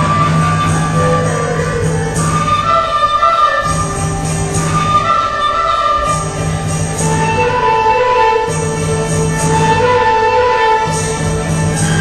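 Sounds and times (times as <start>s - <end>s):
traditional orchestra melody: 0.0s - 12.0s.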